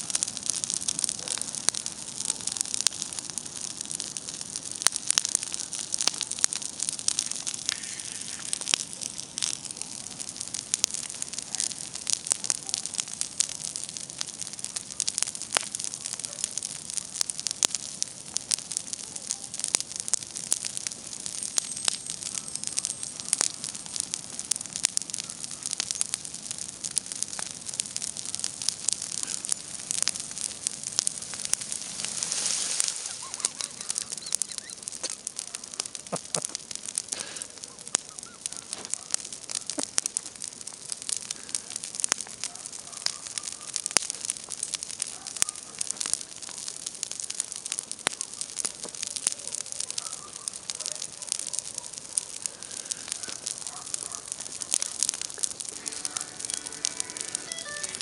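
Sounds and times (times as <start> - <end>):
campfire crackling and popping: 0.0 - 58.0
fire hiss: 0.0 - 58.0.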